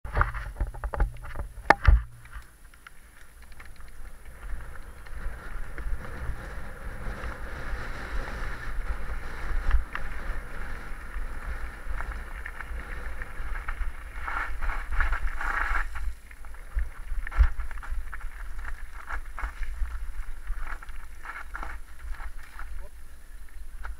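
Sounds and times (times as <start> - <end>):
bike tyres crunching on gravel: 3.0 - 23.9
wind buffeting microphone: 3.7 - 22.9.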